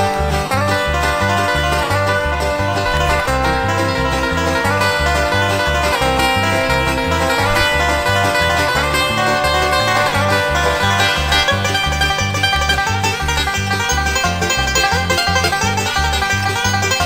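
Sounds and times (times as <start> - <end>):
upbeat bluegrass music: 0.0 - 17.0.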